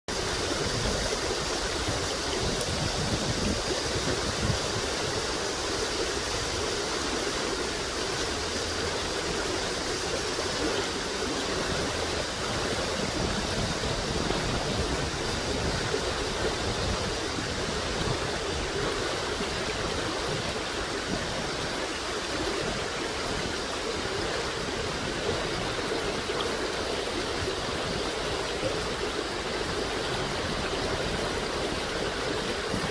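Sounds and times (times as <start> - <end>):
stream water flowing: 0.1 - 32.9.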